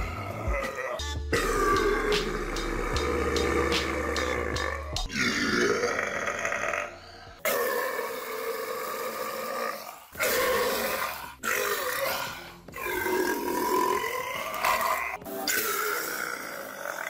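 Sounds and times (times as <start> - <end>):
man burping: 0.0 - 17.0.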